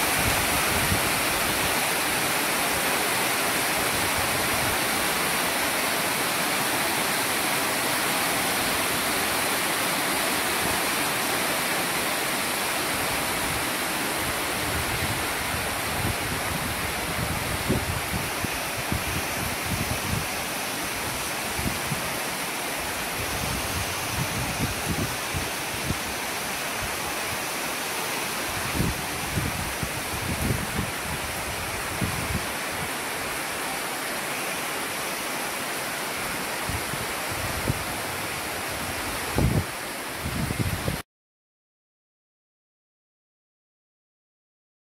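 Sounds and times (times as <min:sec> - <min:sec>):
rain falling: 0:00.0 - 0:41.0.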